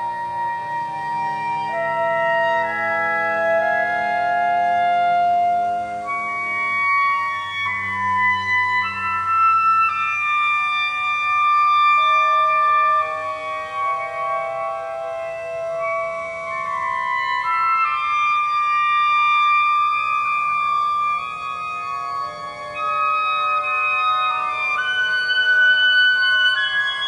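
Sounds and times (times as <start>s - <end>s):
chamber music with electronics: 0.0s - 27.0s
low drone: 0.0s - 27.0s.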